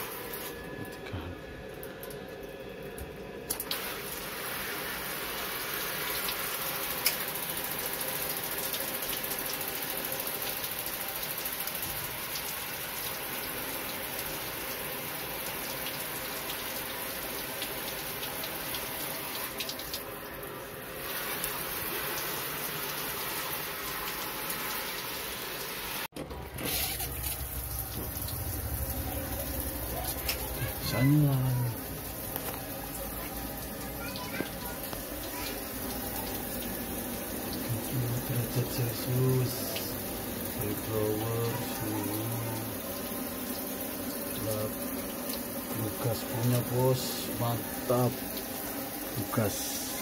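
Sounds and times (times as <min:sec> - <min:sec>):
water running from shower head: 0:00.0 - 0:00.9, 0:03.5 - 0:50.0.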